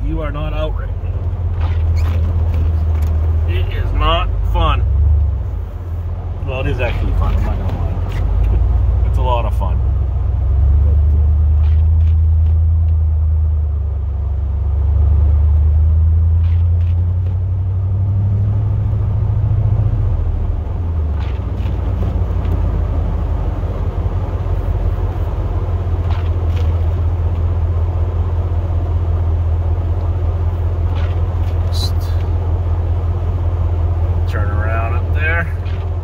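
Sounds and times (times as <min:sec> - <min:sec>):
truck engine drone from cab: 0:00.0 - 0:36.0.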